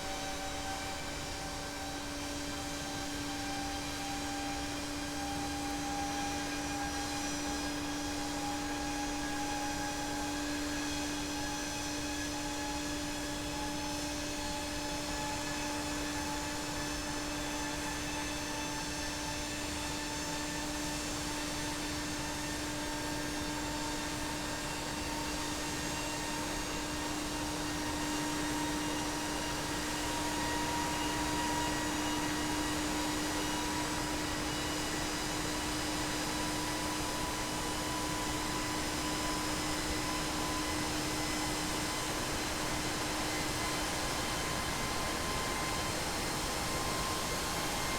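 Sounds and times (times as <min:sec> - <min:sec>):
jet engine running up: 0:00.0 - 0:47.9.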